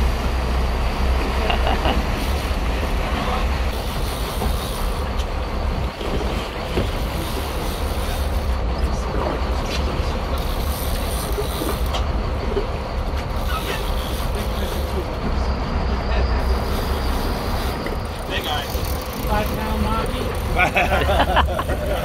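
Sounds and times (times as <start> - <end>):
sea rushing around a boat: 0.0 - 22.0.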